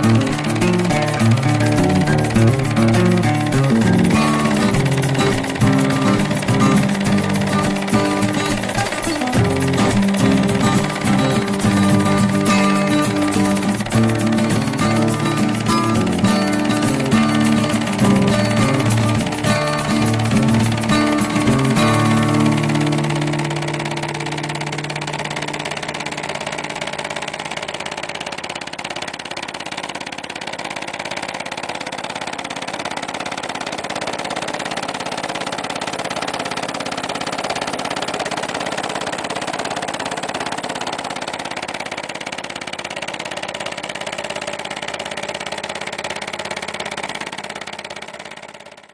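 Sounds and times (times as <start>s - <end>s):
vibrating sieve rattling: 0.0s - 48.9s.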